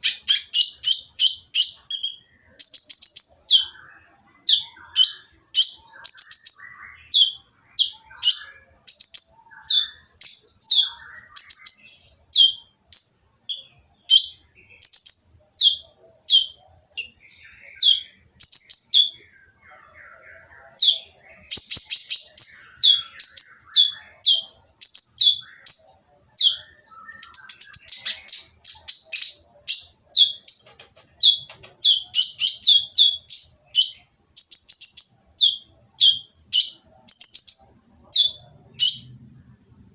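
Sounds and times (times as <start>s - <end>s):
sunbird chirping song: 0.0s - 39.9s.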